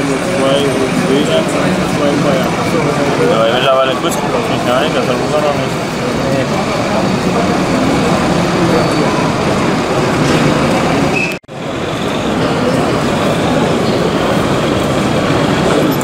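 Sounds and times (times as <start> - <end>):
crowd hubbub: 0.0 - 16.0.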